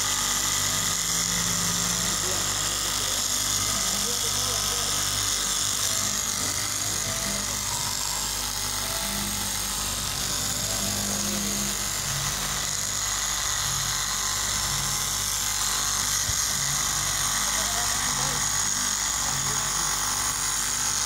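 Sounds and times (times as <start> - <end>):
cloth cutting machine buzzing: 0.0 - 21.0.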